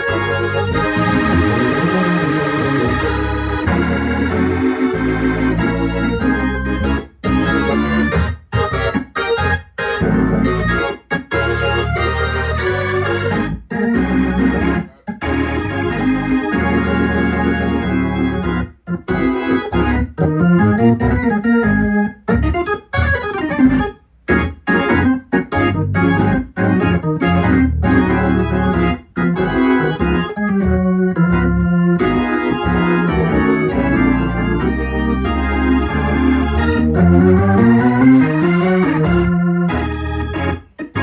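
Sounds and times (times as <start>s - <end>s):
organ chords through rotating speaker: 0.0s - 41.0s.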